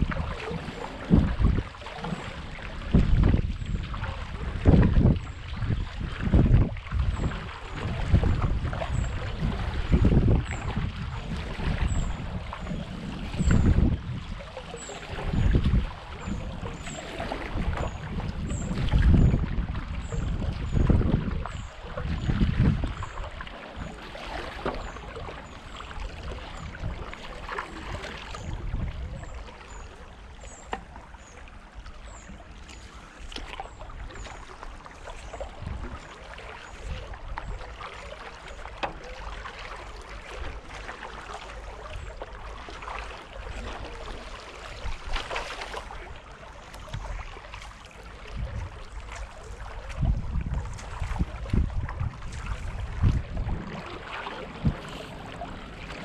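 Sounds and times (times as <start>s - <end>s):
paddle splashing through water: 0.0s - 56.0s.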